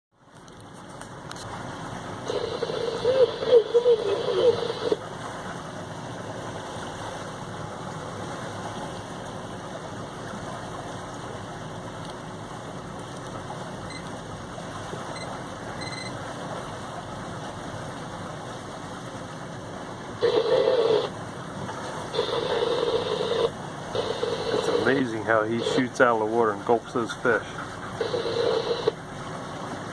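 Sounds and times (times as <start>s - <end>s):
boat engine hum: 0.1s - 29.9s
water rushing along hull: 0.1s - 29.9s.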